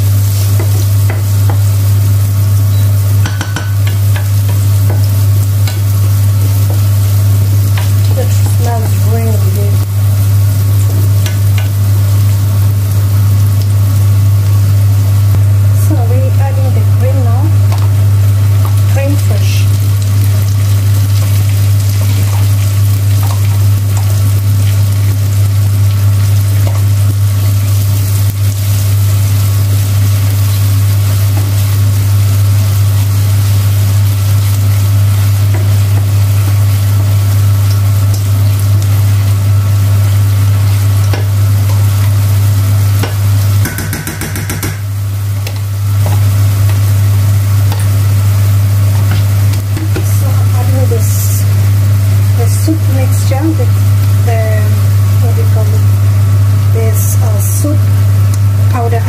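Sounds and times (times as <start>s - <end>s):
loud steady low hum: 0.0s - 59.0s
onions sizzling in a frying pan: 0.0s - 59.0s.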